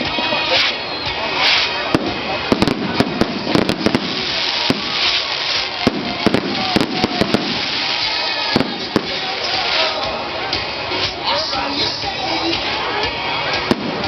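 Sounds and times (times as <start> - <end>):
firecrackers popping: 0.0 - 11.2, 12.6 - 14.0
music: 0.0 - 14.0.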